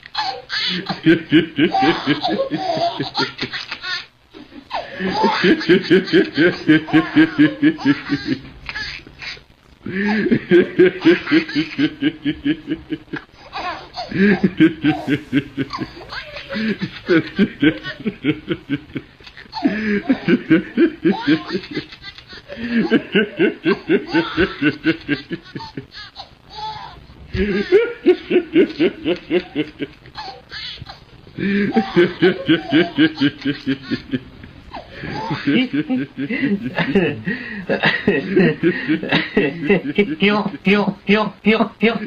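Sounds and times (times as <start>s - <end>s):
baby laughing: 0.0s - 9.4s, 10.1s - 12.2s, 13.1s - 37.2s
man laughing: 0.6s - 3.4s, 4.7s - 8.5s, 9.9s - 13.2s, 14.0s - 26.0s, 27.3s - 30.0s, 31.4s - 42.0s.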